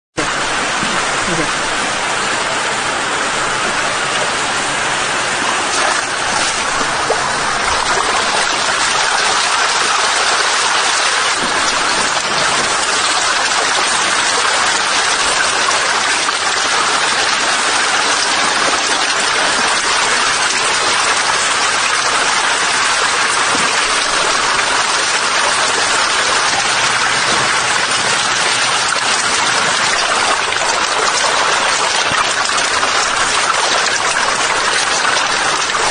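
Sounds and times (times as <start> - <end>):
water rushing and splashing: 0.2 - 35.9.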